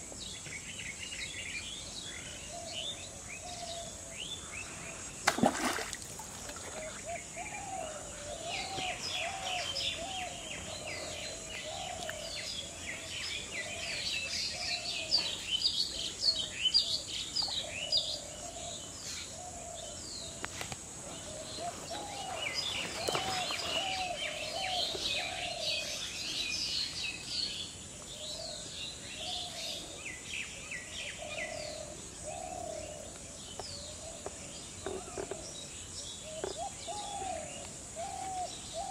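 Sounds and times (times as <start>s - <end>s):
birds chirping and singing: 6.4s - 20.4s, 21.0s - 38.9s.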